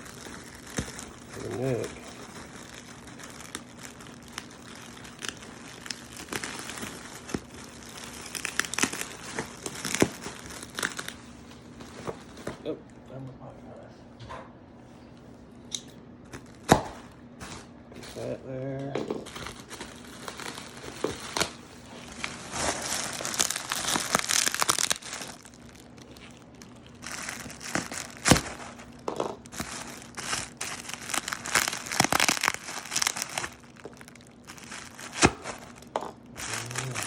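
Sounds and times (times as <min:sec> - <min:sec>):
bubble wrap crinkling and tearing: 0:00.0 - 0:12.7, 0:16.3 - 0:18.4, 0:19.0 - 0:37.0.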